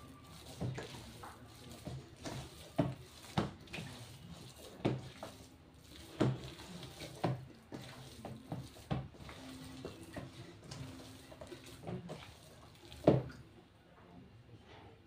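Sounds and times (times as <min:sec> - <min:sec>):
dough thudding and slapping in bowl: 0:00.0 - 0:13.4.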